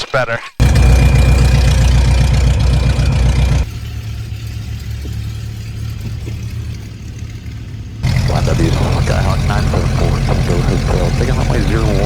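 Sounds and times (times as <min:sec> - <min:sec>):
propeller engine idling: 0:00.6 - 0:12.0.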